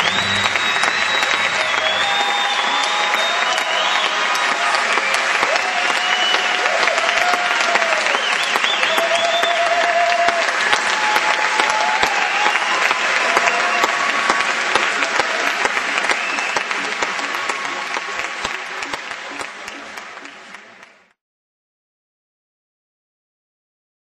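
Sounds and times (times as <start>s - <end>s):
shouts or whistles: 0.0s - 19.8s
crowd applauding: 0.0s - 21.2s.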